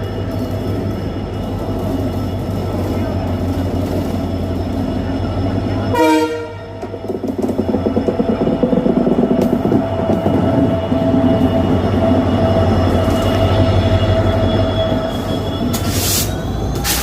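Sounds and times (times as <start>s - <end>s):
train wagons rumbling over rails: 0.0s - 17.0s
train wheels squealing: 0.0s - 17.0s.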